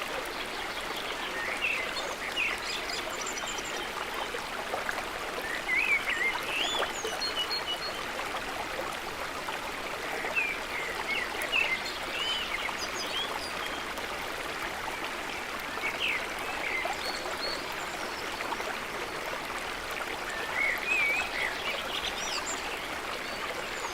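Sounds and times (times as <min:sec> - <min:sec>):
flowing water: 0:00.0 - 0:23.9.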